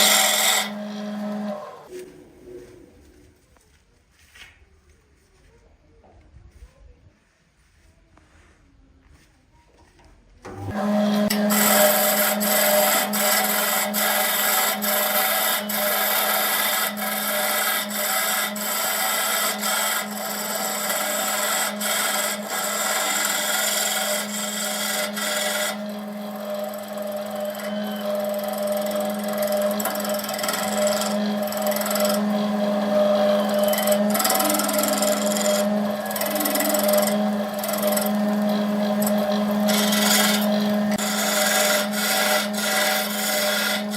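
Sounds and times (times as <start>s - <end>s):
wood lathe motor hum: 0.0s - 2.7s, 10.4s - 43.9s
tool scraping spinning wood: 0.0s - 3.2s, 10.5s - 43.9s.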